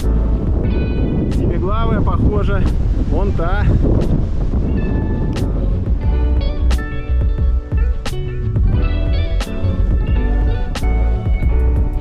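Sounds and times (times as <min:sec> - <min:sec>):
guitar-led music with beat and bass: 0:00.0 - 0:12.0.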